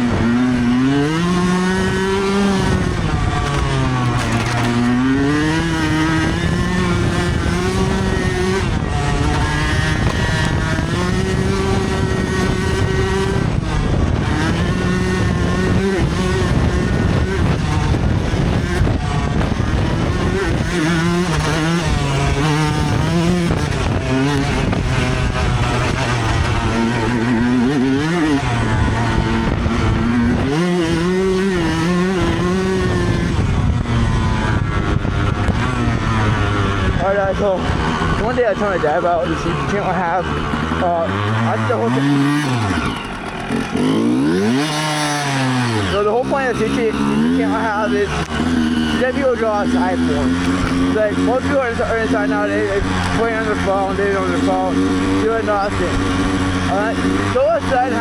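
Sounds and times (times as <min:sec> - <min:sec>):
dirt bike engine revving hard: 0:00.0 - 0:58.0.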